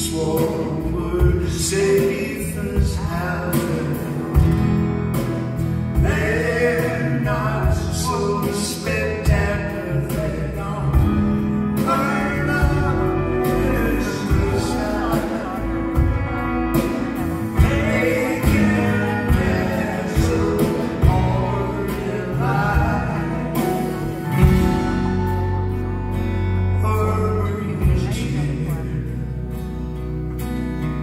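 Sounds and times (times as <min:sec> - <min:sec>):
man singing lead vocal: 0:00.0 - 0:25.6, 0:26.3 - 0:29.7
live band music: 0:00.0 - 0:31.0
strummed acoustic guitars: 0:00.0 - 0:31.0.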